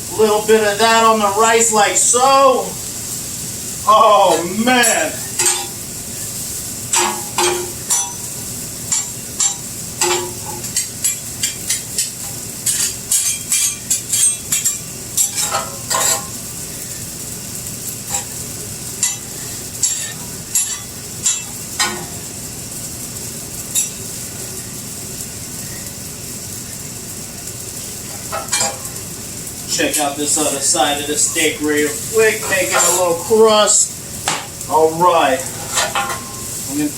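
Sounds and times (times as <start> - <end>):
rice sizzling on a griddle: 0.0 - 36.9
utensil scraping griddle: 0.1 - 17.0, 17.8 - 24.7, 27.6 - 36.9.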